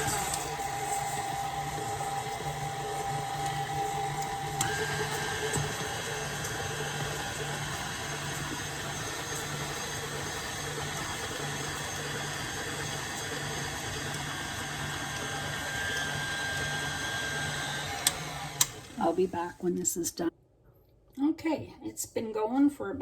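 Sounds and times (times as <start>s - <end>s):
electric mixer beating: 0.0s - 19.5s.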